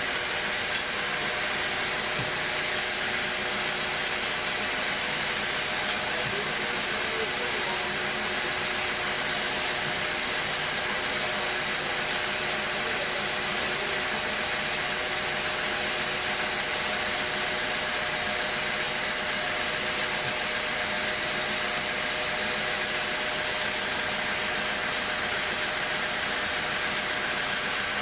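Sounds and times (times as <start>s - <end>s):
sawmill running: 0.0s - 28.0s.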